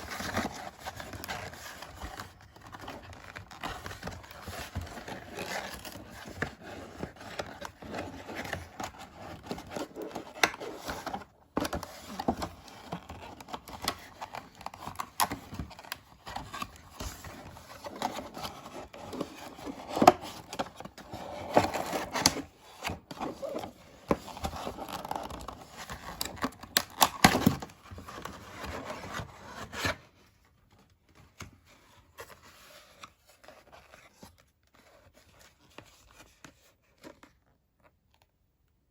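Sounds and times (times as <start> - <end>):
cardboard and plastic rustling: 0.0 - 38.3.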